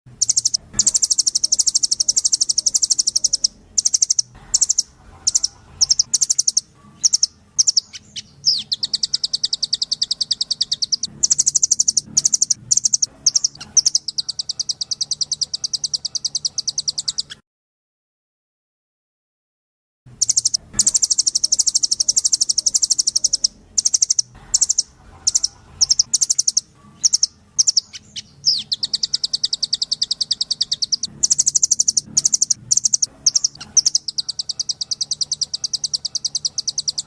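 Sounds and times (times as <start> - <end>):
nuthatch high-pitched trills: 0.2 - 17.4, 20.2 - 37.0.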